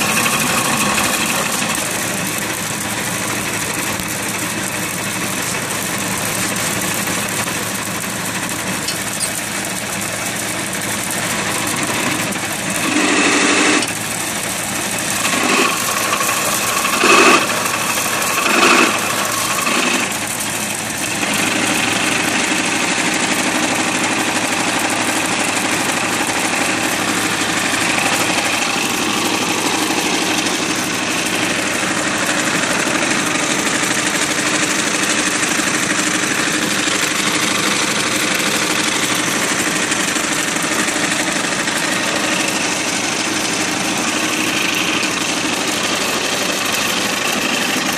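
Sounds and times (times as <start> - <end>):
grinding mill rattling: 0.0 - 47.9
tractor engine running: 0.0 - 47.9.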